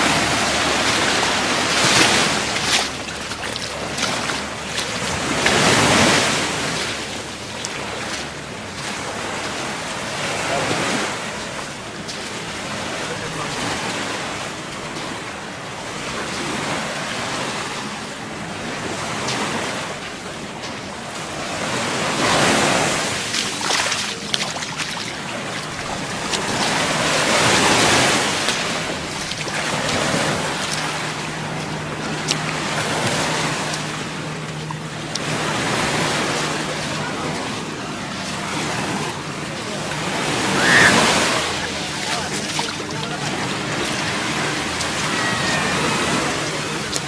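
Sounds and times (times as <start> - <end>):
surf breaking on beach: 0.0 - 47.0.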